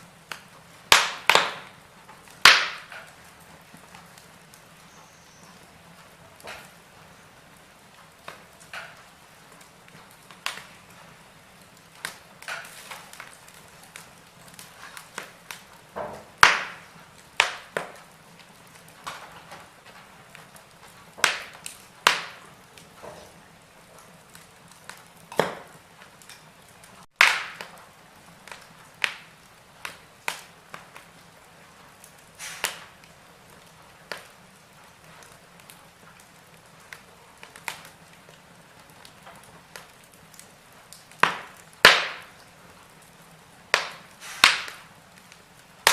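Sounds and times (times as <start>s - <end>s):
faint steady hiss: 0.0s - 45.9s
wood fire crackling: 0.0s - 45.9s.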